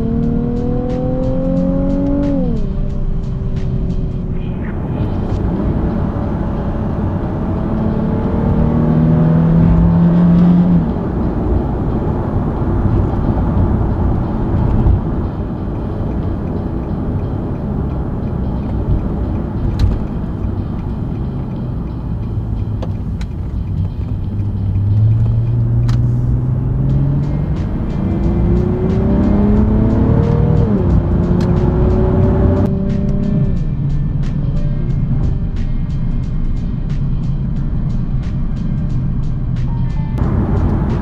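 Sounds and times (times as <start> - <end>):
car engine accelerating: 0.0 - 3.8, 4.4 - 33.5, 40.2 - 41.0.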